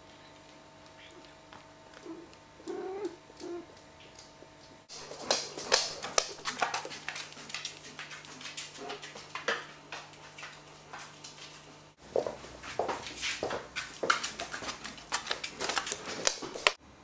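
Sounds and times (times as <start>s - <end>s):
dog claws clicking on floor: 0.4s - 11.6s, 12.2s - 16.8s.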